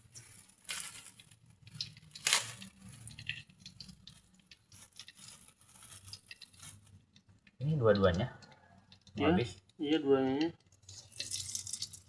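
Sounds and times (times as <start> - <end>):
food packaging crinkling and rustling: 0.0 - 12.0.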